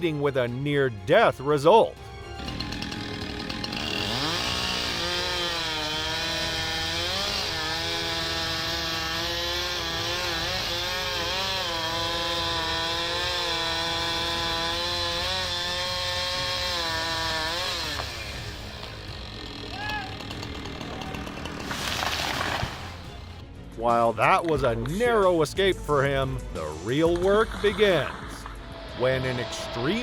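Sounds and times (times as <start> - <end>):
chainsaw cutting wood: 2.0 - 23.5, 26.9 - 30.0.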